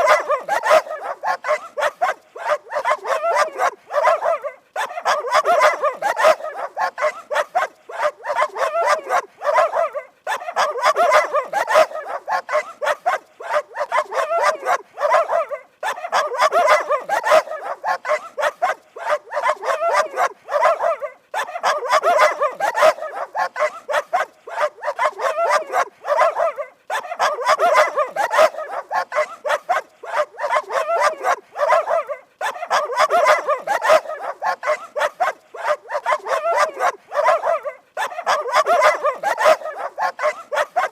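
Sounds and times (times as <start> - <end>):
dog barking rapidly: 0.0 - 40.9.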